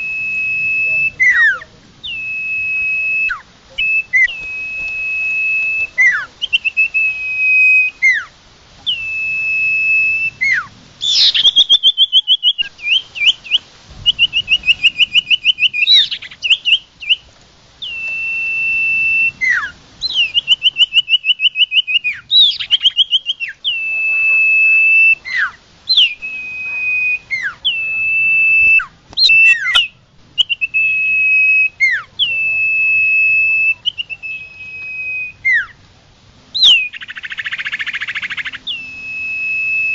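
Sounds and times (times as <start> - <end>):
songbird singing whistles and trills: 0.0 - 35.8, 36.5 - 39.9.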